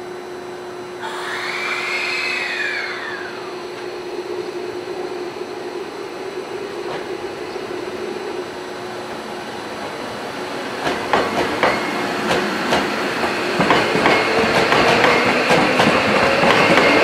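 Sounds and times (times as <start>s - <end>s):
steady hum: 0.0s - 13.6s
electric train motor whine: 0.0s - 17.0s
train rumble: 0.0s - 17.0s.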